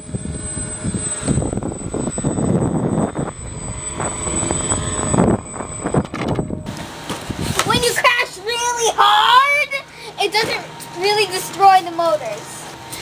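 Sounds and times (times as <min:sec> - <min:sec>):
model plane motors whining: 0:00.0 - 0:13.0.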